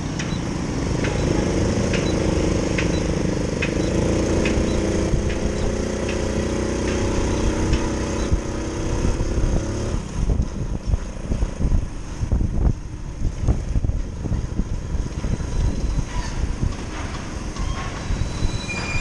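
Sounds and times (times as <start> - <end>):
motorcycle engine running: 0.0 - 18.3
wind buffeting microphone: 0.0 - 19.0.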